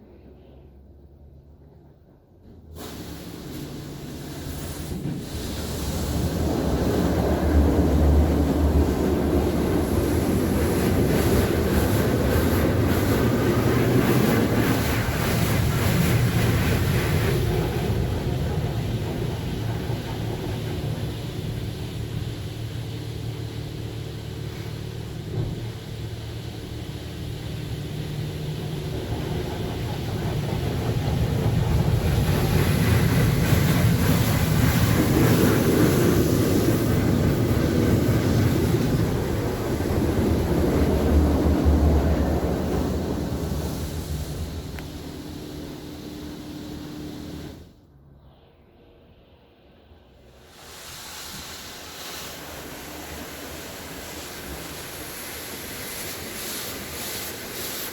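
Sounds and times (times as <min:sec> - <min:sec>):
car wash machinery rumbling: 0:00.0 - 0:57.9
water spray hissing: 0:02.8 - 0:30.2, 0:31.9 - 0:47.6, 0:50.4 - 0:57.9.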